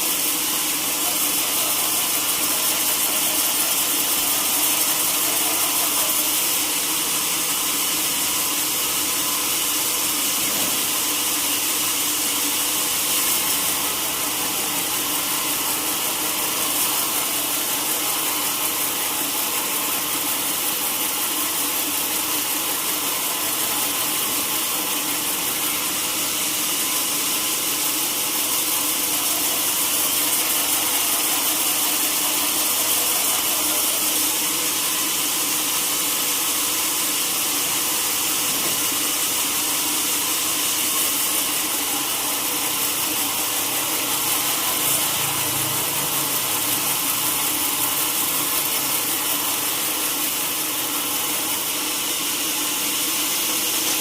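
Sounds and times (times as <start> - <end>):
saw cutting wood hissing: 0.0 - 54.0.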